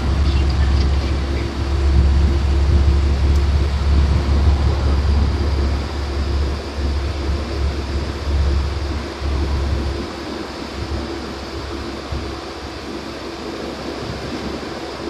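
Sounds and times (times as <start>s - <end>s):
engine and tyre rumble: 0.0s - 15.0s.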